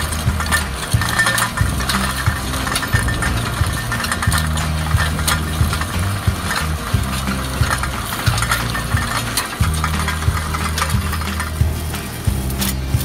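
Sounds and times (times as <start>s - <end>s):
stones clinking against steel: 0.0s - 13.0s
tractor engine running: 0.0s - 13.0s.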